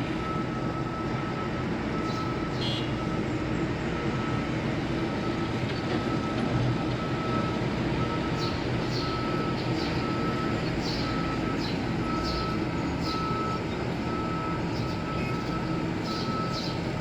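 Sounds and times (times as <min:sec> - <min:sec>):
diesel engine running: 0:00.0 - 0:17.0
reversing alarm beeping: 0:00.0 - 0:17.0.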